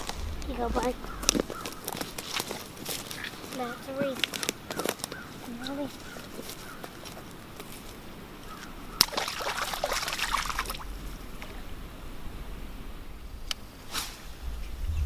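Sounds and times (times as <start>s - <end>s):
water splashing and sloshing: 0.0s - 5.0s, 6.3s - 15.0s.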